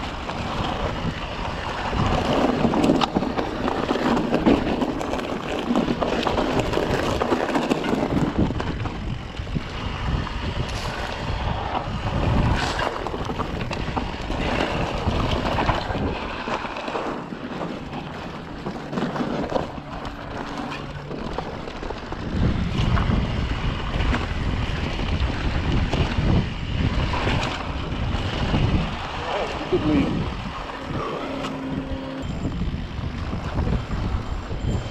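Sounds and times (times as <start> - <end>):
bike clicks and rattles: 0.0 - 29.6, 30.2 - 34.9
wind rushing over microphone: 0.0 - 34.9.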